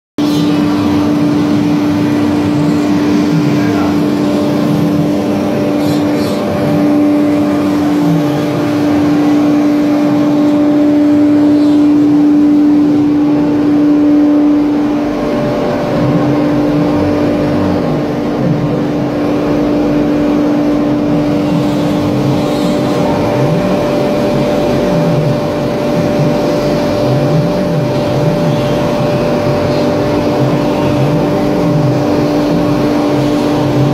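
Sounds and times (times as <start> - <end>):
spindle steady whine: 0.2 - 33.9.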